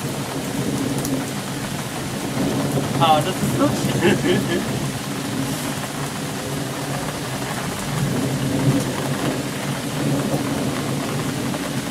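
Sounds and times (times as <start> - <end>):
rain falling: 0.0 - 11.9
thunder rumbling: 0.0 - 11.9.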